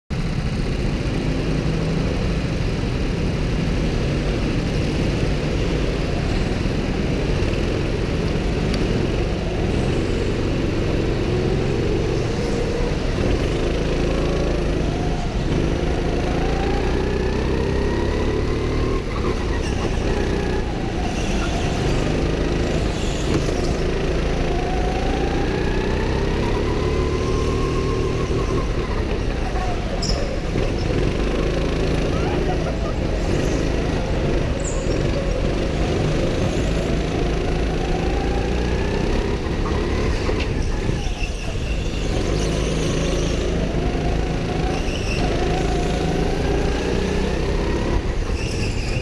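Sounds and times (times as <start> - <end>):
go-kart engine accelerating: 0.2 - 49.0.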